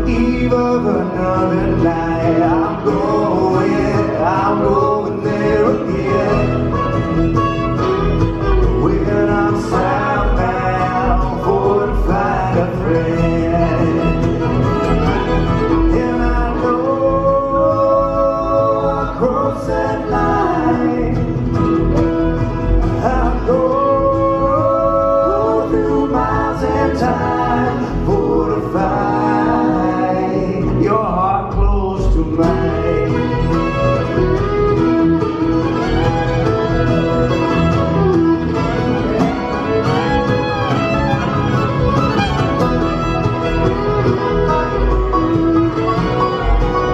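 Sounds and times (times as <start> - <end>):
acoustic guitar: 0.0 - 46.9
banjo: 0.0 - 46.9
fiddle: 0.0 - 46.9
mandolin: 0.0 - 46.9
plucked upright bass line: 0.0 - 46.9.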